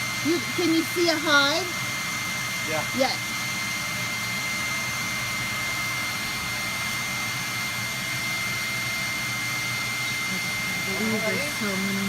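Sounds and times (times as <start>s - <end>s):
motor drone with high whine: 0.0s - 12.0s.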